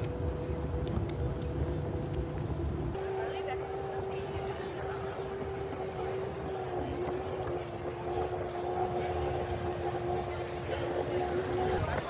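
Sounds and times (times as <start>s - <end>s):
low rumbling riding noise: 0.0s - 12.0s
scooter motor whine: 0.0s - 12.0s.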